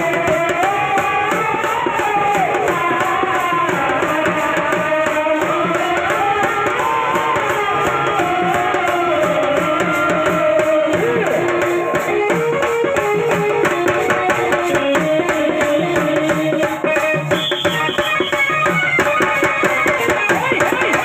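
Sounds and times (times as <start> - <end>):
drum beating fast rhythm: 0.0 - 21.0.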